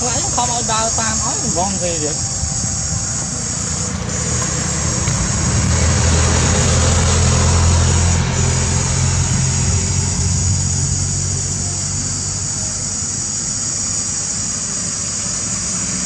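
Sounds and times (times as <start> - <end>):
high buzz of insects: 0.0 - 16.0
low engine rumble: 0.0 - 16.0.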